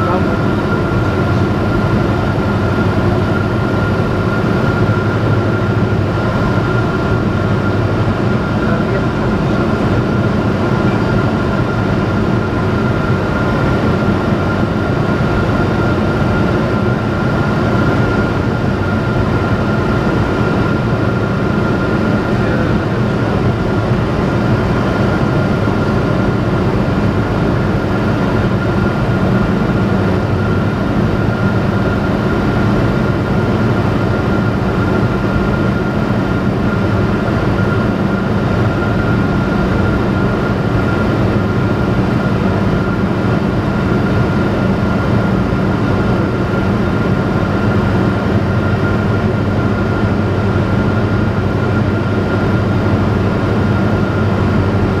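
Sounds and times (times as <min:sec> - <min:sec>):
light aircraft engine drone in cockpit: 0:00.0 - 0:55.0.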